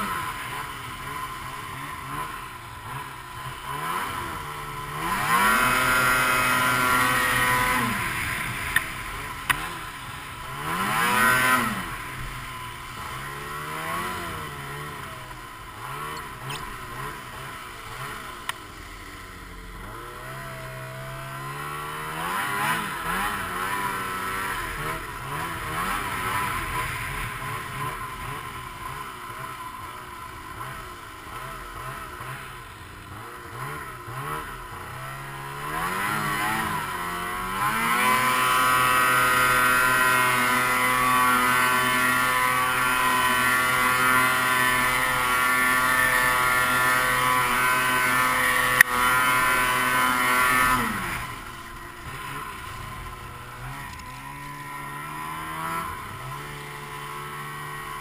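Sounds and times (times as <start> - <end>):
rush of wind and snow: 0.0 - 58.0
snowmobile engine revving: 0.0 - 58.0.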